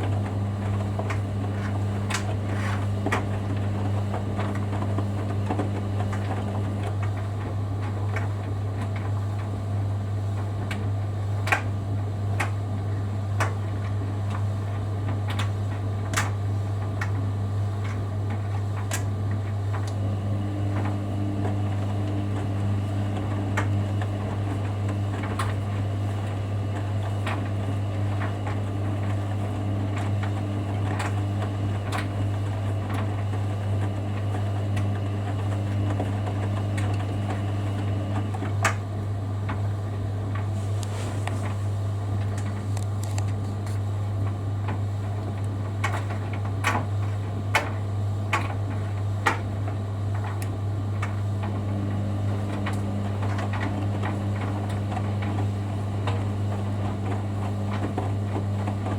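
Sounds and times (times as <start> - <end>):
washing machine humming: 0.0 - 58.9.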